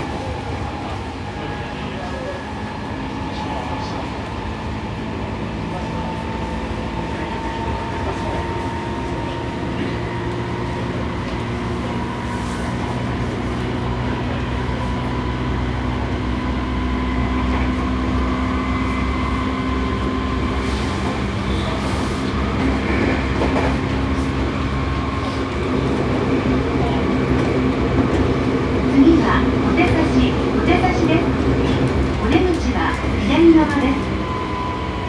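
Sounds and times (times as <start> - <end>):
train rail rumble: 0.0 - 35.0.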